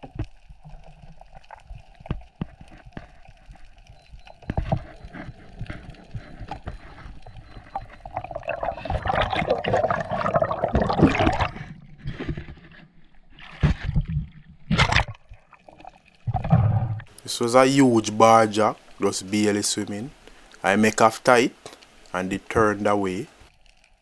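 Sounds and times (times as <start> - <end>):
water gurgling: 0.0 - 20.2.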